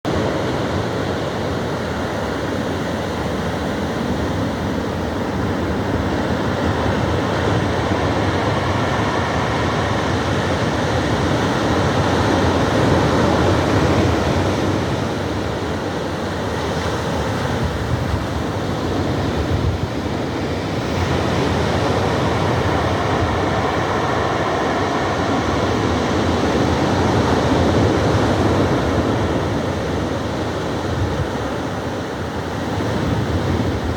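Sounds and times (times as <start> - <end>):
ocean surf washing ashore: 0.1 - 33.9.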